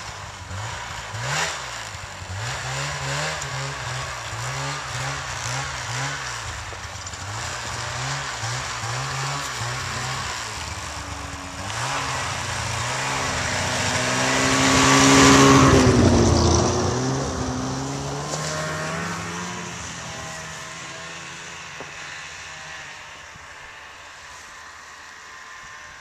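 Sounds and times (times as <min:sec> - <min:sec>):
snowmobile engine passing: 0:00.0 - 0:26.0.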